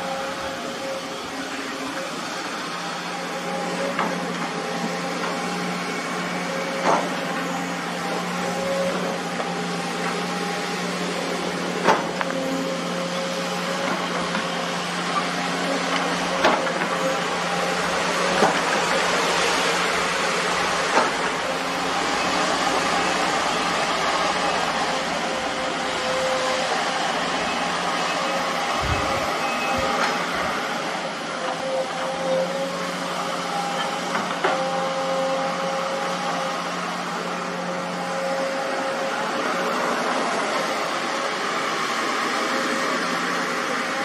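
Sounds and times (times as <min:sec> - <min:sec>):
diesel engines droning: 0:00.0 - 0:44.0.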